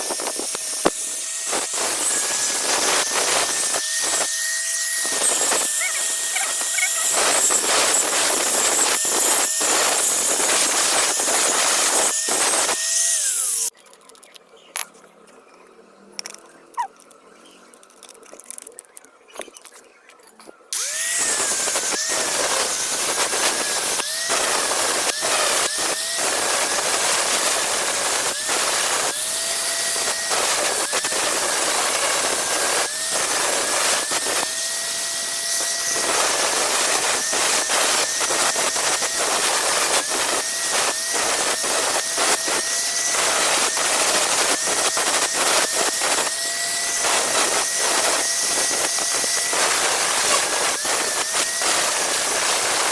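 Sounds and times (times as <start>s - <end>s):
electric grinder grinding steel: 0.0s - 13.7s, 20.8s - 52.9s.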